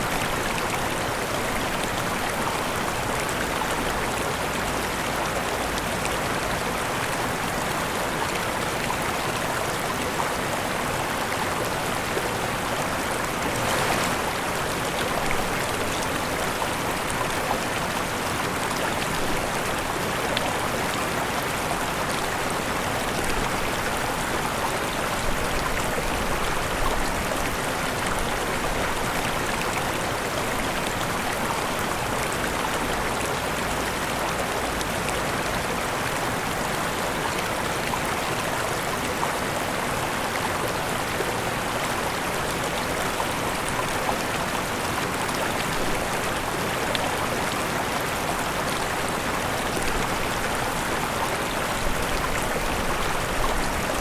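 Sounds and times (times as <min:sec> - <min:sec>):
waterfall rushing: 0:00.0 - 0:33.9, 0:34.6 - 0:54.0.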